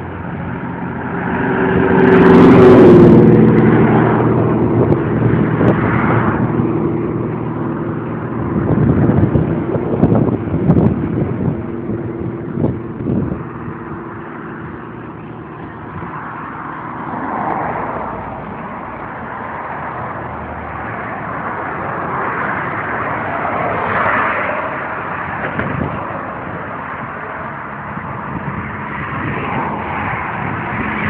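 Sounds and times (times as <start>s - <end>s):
rushing noise: 0.0s - 31.0s
vehicle engine running: 0.0s - 31.0s.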